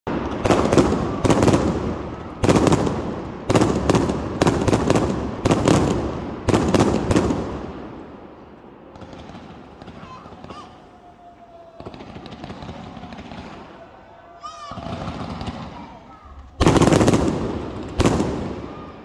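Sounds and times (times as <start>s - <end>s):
fireworks cracking: 0.1s - 19.0s.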